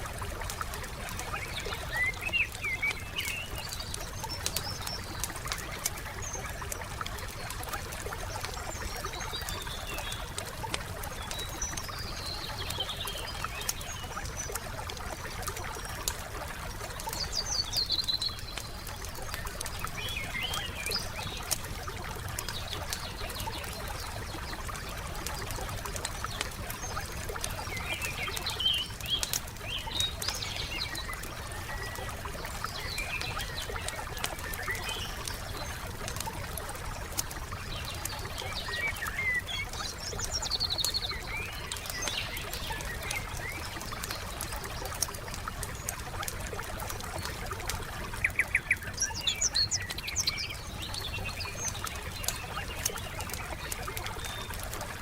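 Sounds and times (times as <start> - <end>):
songbirds chirping: 0.0 - 55.0
wood fire crackling: 0.0 - 55.0.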